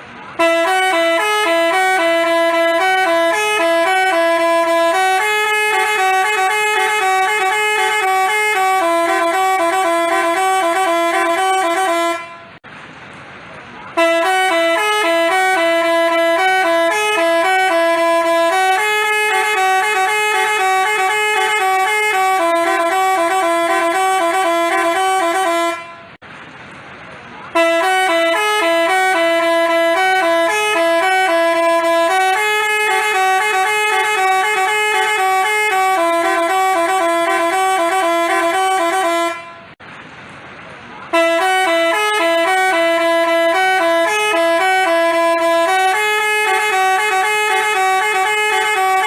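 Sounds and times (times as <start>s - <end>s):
musical bus horn tune: 0.0s - 12.6s, 13.9s - 26.2s, 27.5s - 39.8s, 41.1s - 49.0s.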